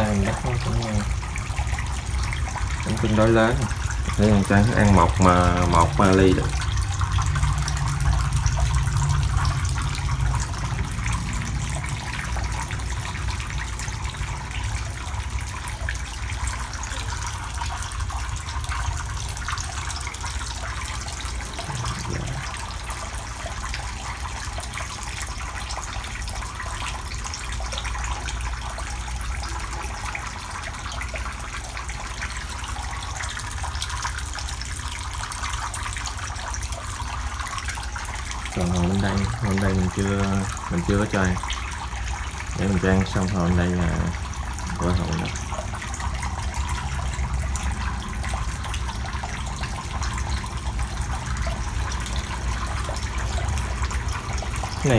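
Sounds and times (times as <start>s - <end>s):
water running and splashing: 0.0s - 54.9s.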